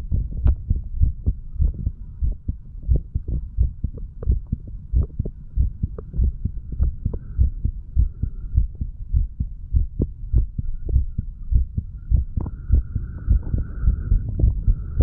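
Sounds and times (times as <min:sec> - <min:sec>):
heart beating: 0:00.0 - 0:15.0.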